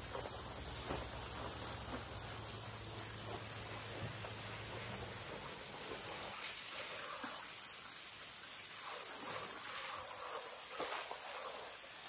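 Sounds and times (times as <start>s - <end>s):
water spraying from garden hose: 0.0s - 12.0s.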